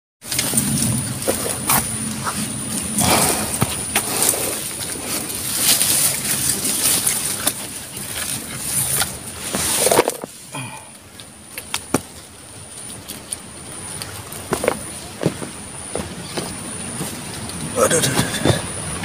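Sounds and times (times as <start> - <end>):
steady high-pitched whine: 0.3 - 19.0.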